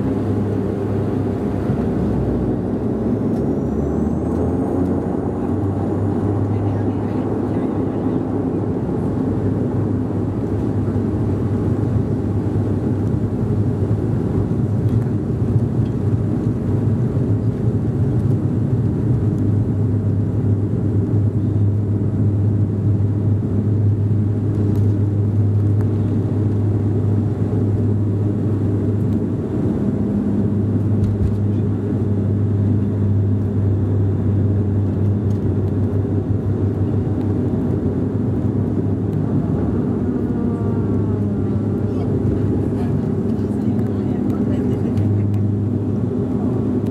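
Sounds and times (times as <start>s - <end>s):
turboprop engines droning in cabin: 0.0s - 46.9s.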